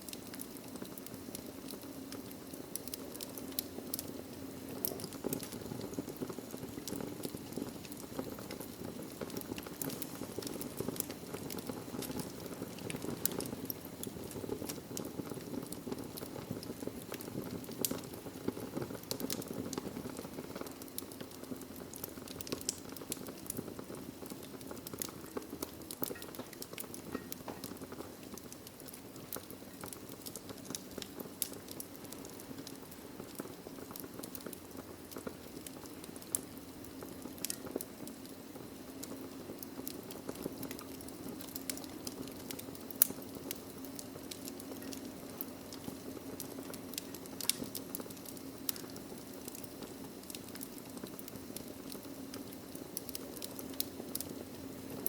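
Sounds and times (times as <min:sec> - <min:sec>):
logs crackling and popping: 0:00.0 - 0:55.0
wood fire flames rushing: 0:00.0 - 0:55.0.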